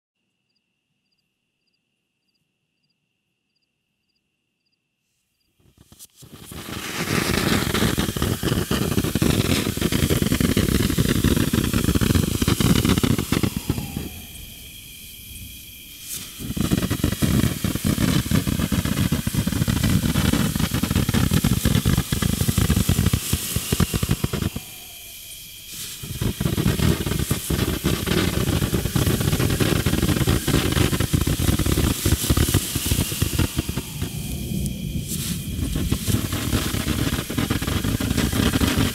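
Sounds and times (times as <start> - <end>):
firework fountain crackling hiss: 5.6 - 38.9.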